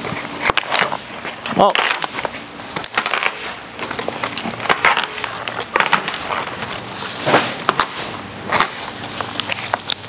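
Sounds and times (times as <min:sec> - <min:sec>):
brittle vinyl ripping and crackling: 0:00.0 - 0:10.0.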